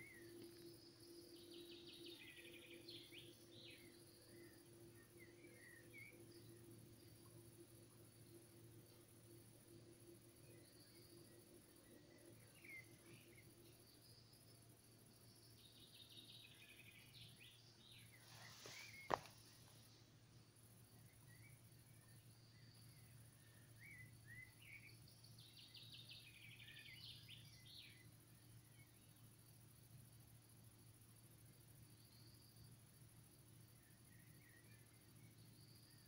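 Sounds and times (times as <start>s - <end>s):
small birds chirping: 0.0s - 20.0s, 20.6s - 29.6s.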